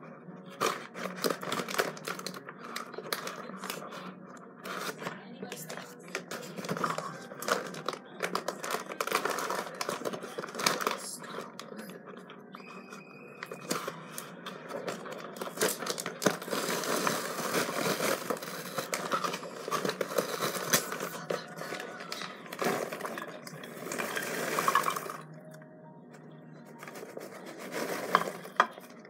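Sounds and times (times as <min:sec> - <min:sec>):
paper bag crinkling and tearing: 0:00.6 - 0:04.0, 0:04.6 - 0:05.1, 0:05.7 - 0:11.8, 0:12.8 - 0:25.2, 0:26.8 - 0:29.0.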